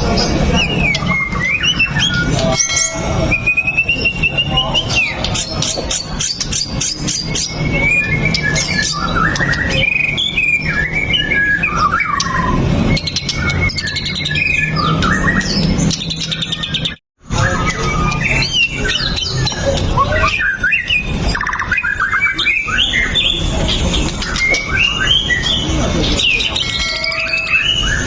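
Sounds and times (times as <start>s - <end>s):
bird singing varied whistles: 0.0s - 23.6s, 24.2s - 28.0s.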